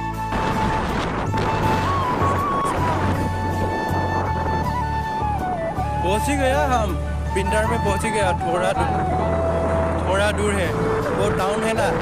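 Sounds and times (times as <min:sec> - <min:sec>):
bass line: 0:00.0 - 0:12.0.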